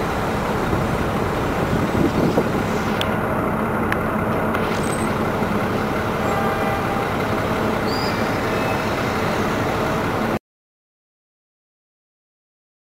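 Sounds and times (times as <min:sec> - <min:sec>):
low engine hum: 0:00.0 - 0:10.4
road and traffic noise: 0:00.0 - 0:10.4.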